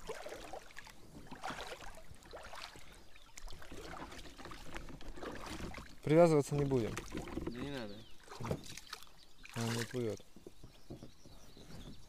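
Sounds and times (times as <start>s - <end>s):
small water splashes: 0.0s - 10.6s
paddle knocks and rustles: 0.0s - 12.0s.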